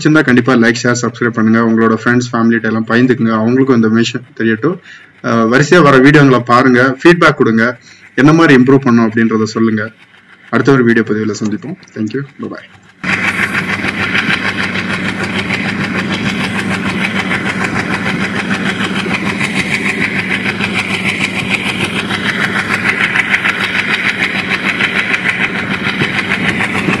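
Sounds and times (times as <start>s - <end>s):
diesel locomotive engine: 0.0s - 27.0s
train wheels clattering on rail: 0.0s - 27.0s.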